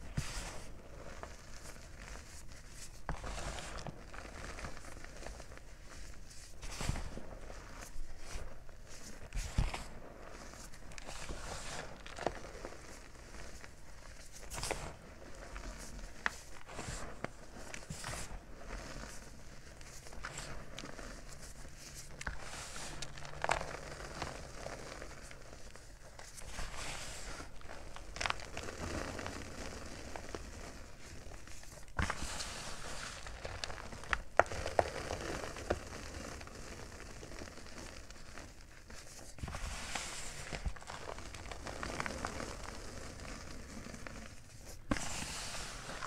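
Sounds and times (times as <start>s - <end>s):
fingers crunching powdery chalk: 0.0s - 46.0s.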